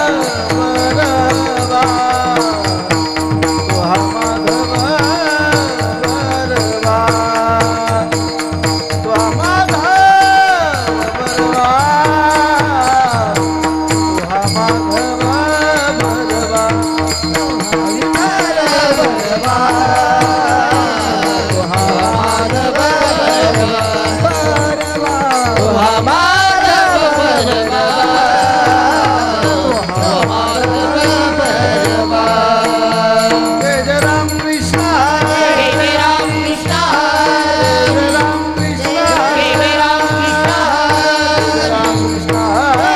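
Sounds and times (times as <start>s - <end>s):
percussion: 0.0s - 42.9s
person singing: 0.0s - 42.9s.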